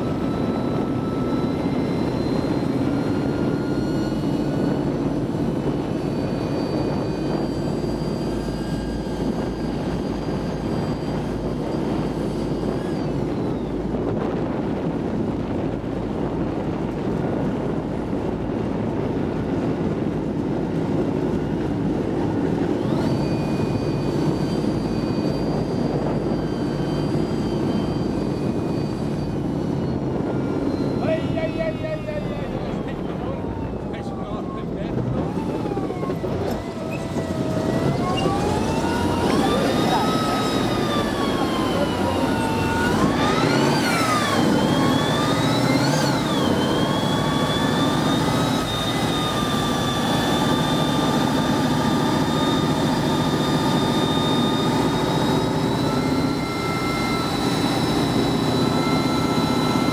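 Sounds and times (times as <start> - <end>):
thin high whine: 0.0 - 16.3, 20.9 - 59.9.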